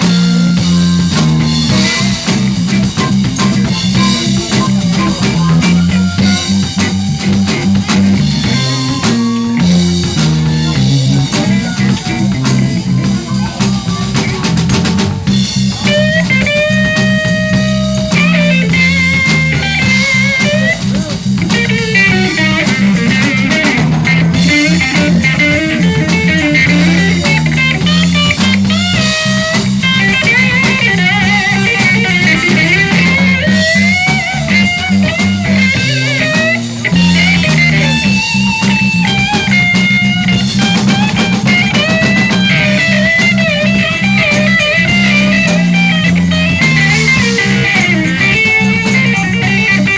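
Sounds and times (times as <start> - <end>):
blues band playing: 0.0 - 49.9
guitar solo with bent notes: 0.0 - 49.9.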